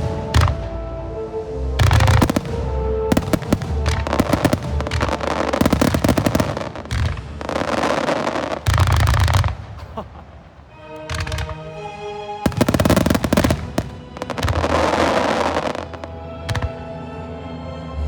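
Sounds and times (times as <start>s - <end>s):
firework crackling: 0.0s - 0.9s, 1.6s - 16.9s
firework shells bursting: 1.8s - 17.0s.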